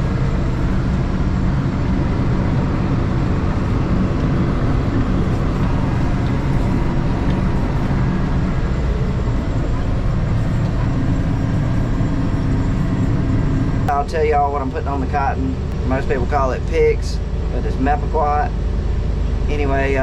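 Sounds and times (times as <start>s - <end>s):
sprayer engine drone: 0.0s - 20.0s.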